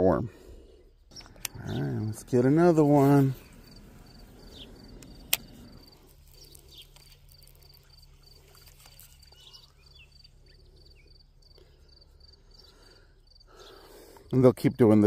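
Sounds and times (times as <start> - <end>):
insects chirping: 0.8 - 15.0.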